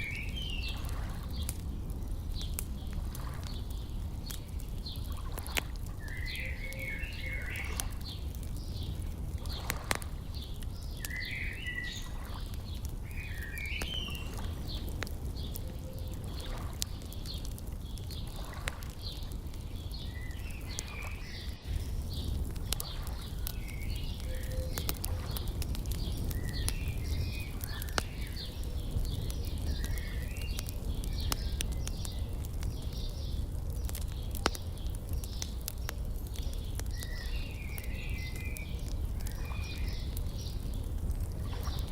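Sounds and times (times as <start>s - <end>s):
birds chirping: 0.0s - 41.9s
wood fire crackling and popping: 0.0s - 41.9s.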